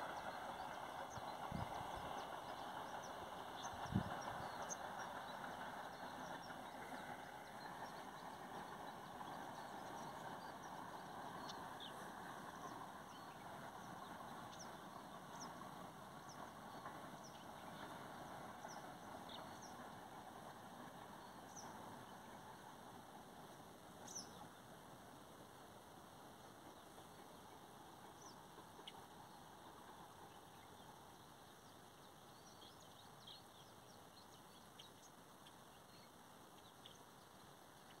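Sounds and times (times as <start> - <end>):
faint rural ambience: 0.0 - 38.0
steady low hiss: 0.0 - 38.0.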